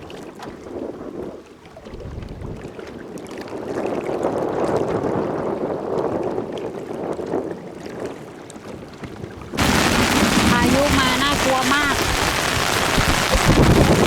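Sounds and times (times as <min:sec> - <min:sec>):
storm wind and water: 0:00.0 - 0:14.0.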